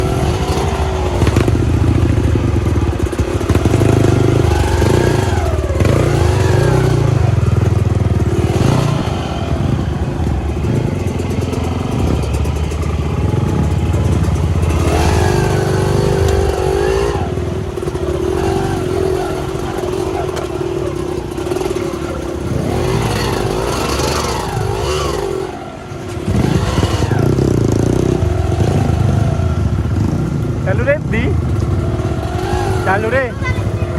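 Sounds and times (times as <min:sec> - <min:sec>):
clatter: 0:00.0 - 0:31.8
motorcycle engine revving: 0:00.0 - 0:33.9.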